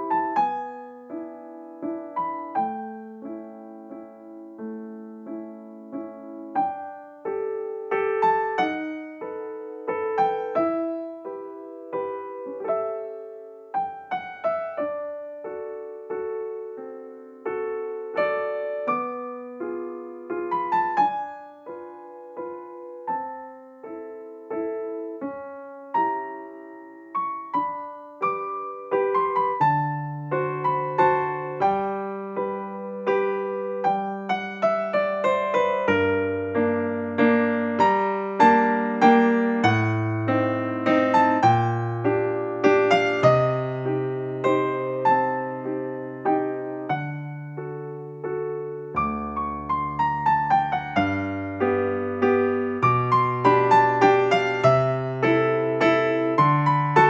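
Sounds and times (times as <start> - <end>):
gentle solo piano music: 0.0 - 57.0.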